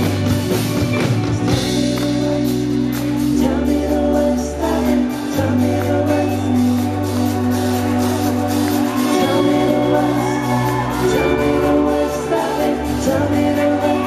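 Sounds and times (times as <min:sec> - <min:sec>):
live band playing pop song: 0:00.0 - 0:14.0
man singing: 0:01.2 - 0:14.0.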